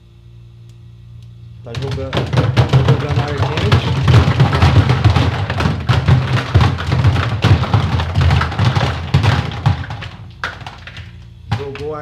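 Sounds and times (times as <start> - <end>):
ice machine humming: 1.7 - 12.0
rattling and ticking: 1.7 - 12.0.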